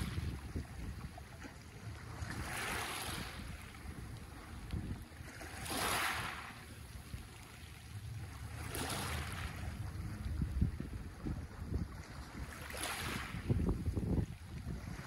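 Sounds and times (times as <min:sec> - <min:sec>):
waves washing over pebbles: 0:00.0 - 0:15.0.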